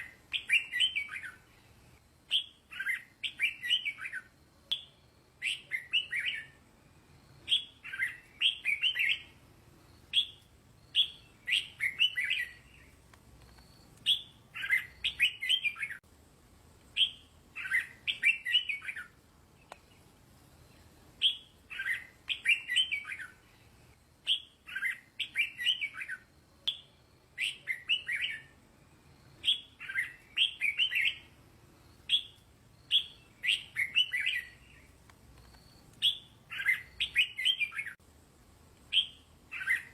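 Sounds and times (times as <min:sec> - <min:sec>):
bird singing warbling phrases: 0:00.0 - 0:01.7, 0:02.3 - 0:06.6, 0:07.4 - 0:09.4, 0:10.0 - 0:13.0, 0:14.0 - 0:16.0, 0:16.9 - 0:28.6, 0:29.3 - 0:31.4, 0:32.0 - 0:35.0, 0:36.0 - 0:38.0, 0:38.9 - 0:39.9.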